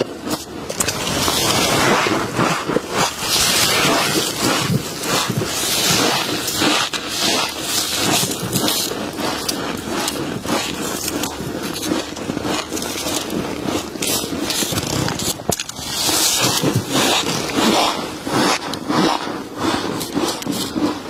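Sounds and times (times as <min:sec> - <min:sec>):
frost crunching and scraping: 0:00.0 - 0:21.0.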